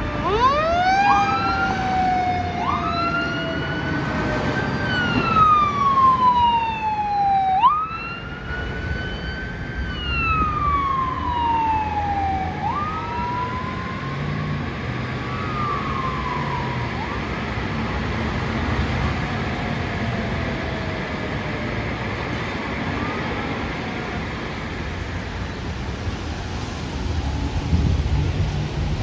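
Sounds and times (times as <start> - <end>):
ambulance siren wailing: 0.0 - 24.8
road traffic rumble: 0.0 - 29.0.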